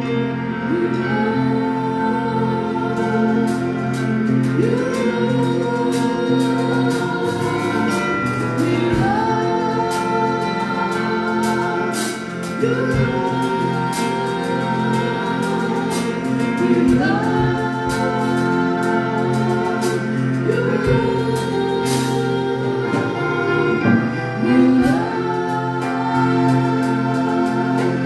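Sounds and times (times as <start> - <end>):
group of singers: 0.0 - 28.0
sustained keyboard chords: 0.0 - 28.0.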